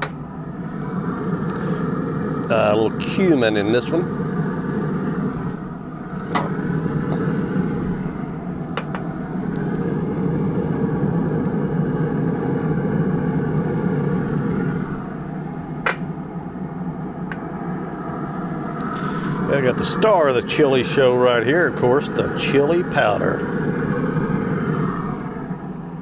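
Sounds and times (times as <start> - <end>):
grill fan and fire rumbling: 0.0 - 26.0.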